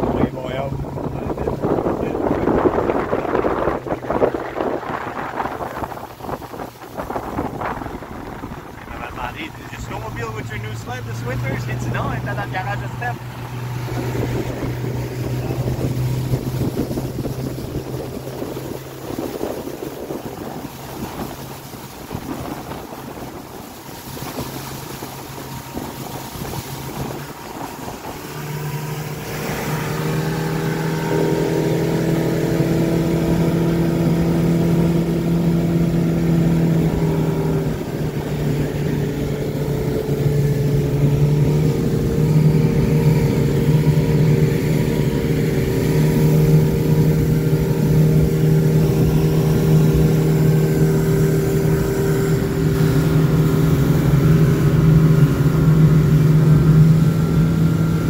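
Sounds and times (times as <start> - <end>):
outboard motor running: 0.0 - 58.0
water rushing: 0.0 - 58.0
wind rushing: 0.7 - 55.2.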